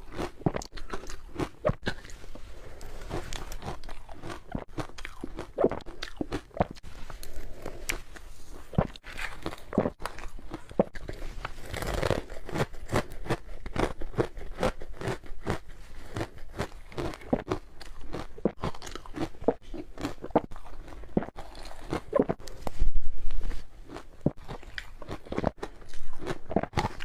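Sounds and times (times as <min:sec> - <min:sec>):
ice being chewed: 0:00.0 - 0:27.0.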